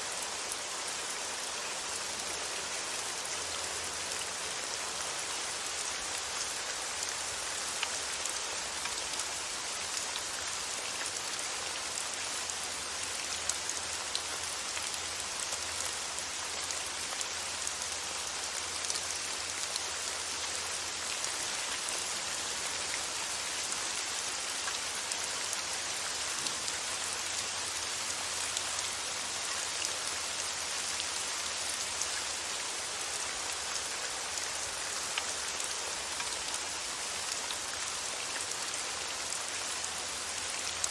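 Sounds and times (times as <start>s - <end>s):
rain falling on a surface: 0.0s - 40.9s.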